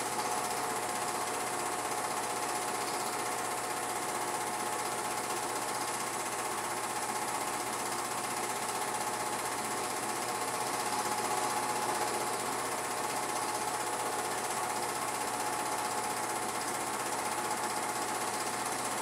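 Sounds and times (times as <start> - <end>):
film projector clatter and whir: 0.0 - 19.0.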